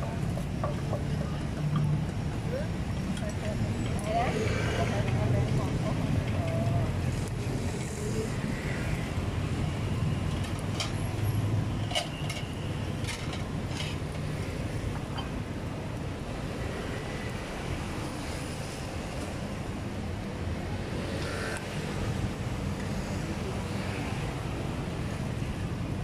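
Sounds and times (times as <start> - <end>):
street background rumble: 0.0 - 26.0.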